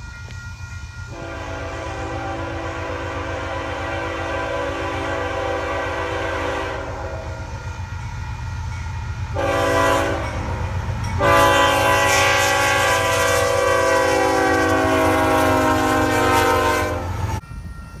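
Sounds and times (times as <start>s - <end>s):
low train rumble: 0.0s - 18.0s
locomotive air horn blasts: 1.1s - 7.7s, 9.3s - 17.4s.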